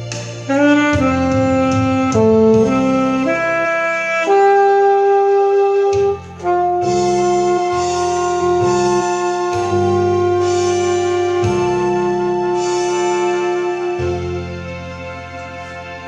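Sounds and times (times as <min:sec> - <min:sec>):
lower musical accompaniment: 0:00.0 - 0:16.0
saxophone slow melody: 0:00.0 - 0:16.0.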